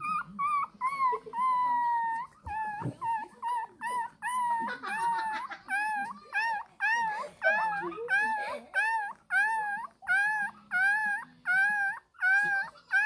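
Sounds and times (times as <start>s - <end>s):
puppy whining cries: 0.0s - 13.0s.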